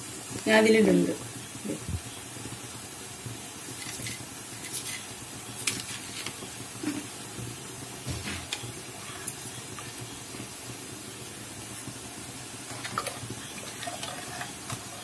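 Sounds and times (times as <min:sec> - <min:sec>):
pressure cooker hissing: 0:00.0 - 0:15.0.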